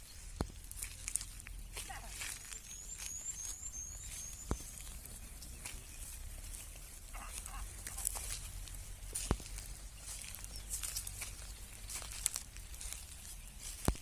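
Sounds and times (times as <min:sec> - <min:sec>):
rustling: 0:00.0 - 0:14.0
small bird chirping: 0:00.0 - 0:14.0.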